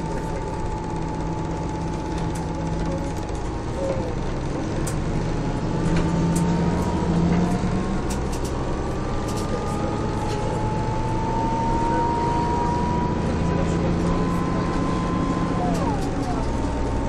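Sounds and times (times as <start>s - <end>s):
diesel bus engine running: 0.0s - 17.0s
drivetrain whine: 0.0s - 17.0s.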